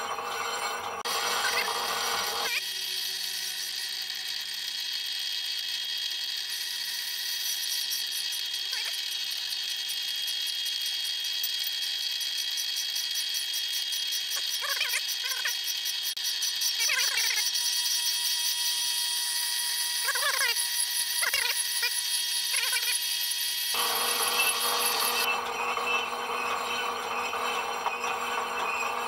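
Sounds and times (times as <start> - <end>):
lathe cutting whine: 0.0 - 14.2, 17.4 - 29.0.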